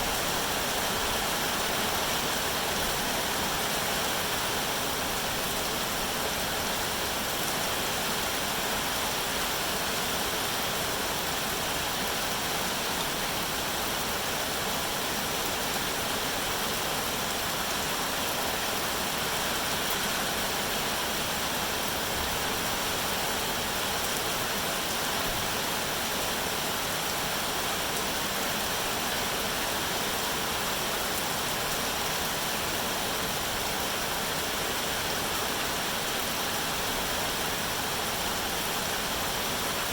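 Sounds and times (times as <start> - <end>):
rainfall hiss: 0.0 - 39.9.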